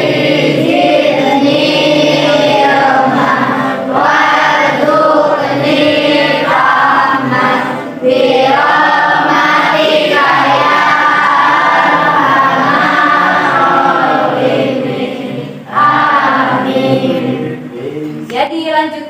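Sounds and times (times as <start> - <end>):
children chanting in unison: 0.0 - 18.3.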